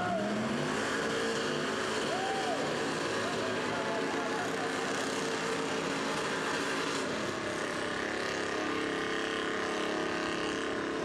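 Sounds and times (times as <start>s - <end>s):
monster truck engines under load: 0.0s - 11.0s
tires spinning: 0.0s - 11.0s.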